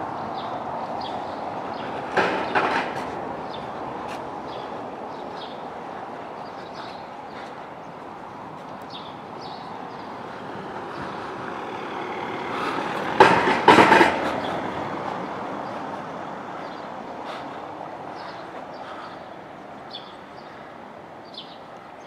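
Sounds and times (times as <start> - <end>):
vehicle passing close by: 0.0 - 19.9
street background noise: 0.0 - 22.0.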